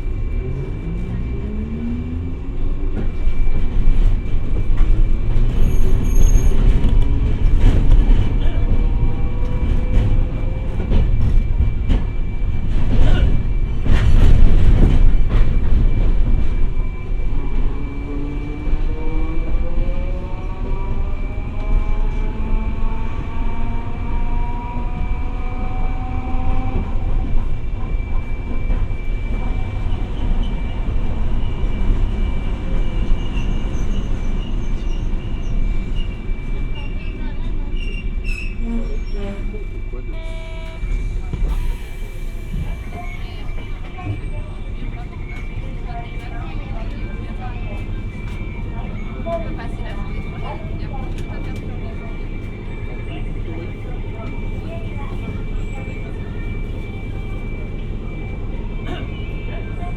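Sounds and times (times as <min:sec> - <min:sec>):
tram motors whining: 0:00.0 - 0:59.9.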